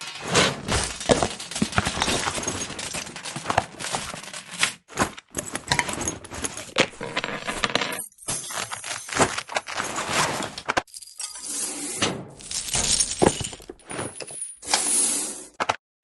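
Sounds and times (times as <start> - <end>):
foley clatter clinks and impacts: 0.1 - 11.4, 12.3 - 14.6.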